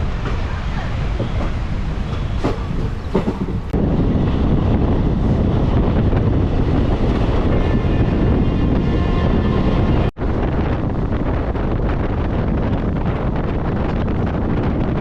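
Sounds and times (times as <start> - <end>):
train running on rails: 0.0 - 15.0
wind on microphone: 0.0 - 15.0.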